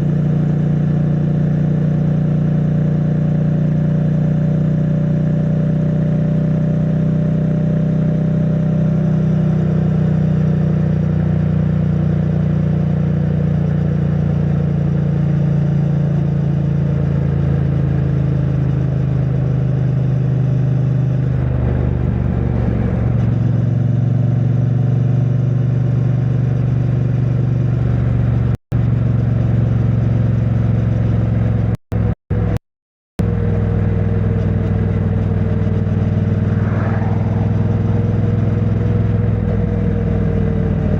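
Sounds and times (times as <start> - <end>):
motorcycle engine running: 0.0 - 32.6, 33.2 - 40.9.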